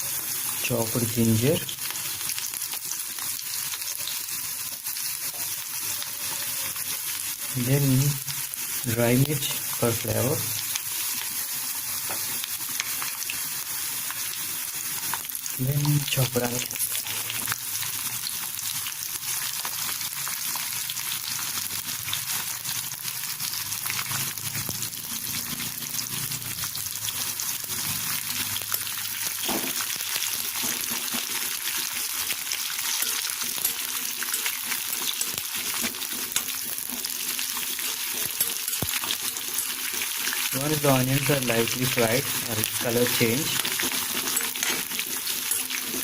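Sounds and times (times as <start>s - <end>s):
onion sizzling in hot oil: 0.0s - 46.0s.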